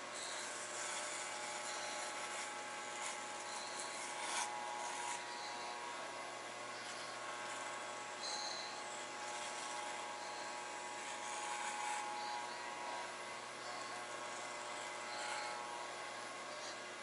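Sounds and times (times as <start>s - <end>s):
hair clippers buzzing: 0.0s - 17.0s.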